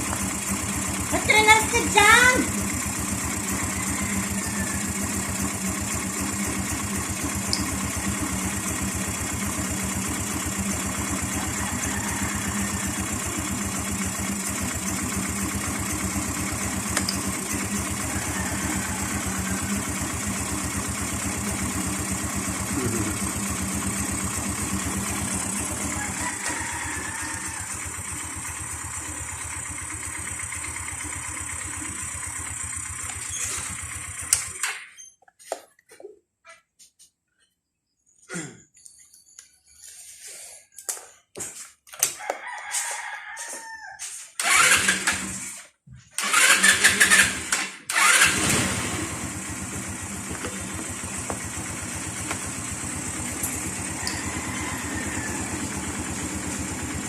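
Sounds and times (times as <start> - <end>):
scooter engine idling: 0.0 - 35.0, 44.4 - 57.0.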